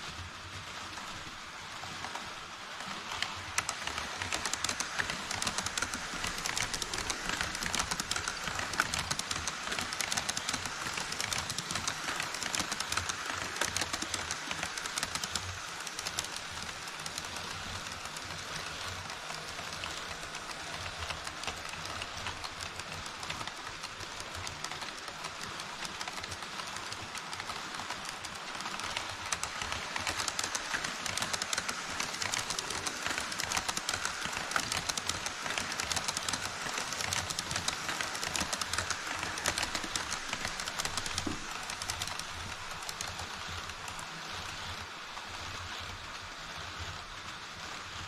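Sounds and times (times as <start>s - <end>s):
model train wheels clattering on rails: 0.0s - 48.0s.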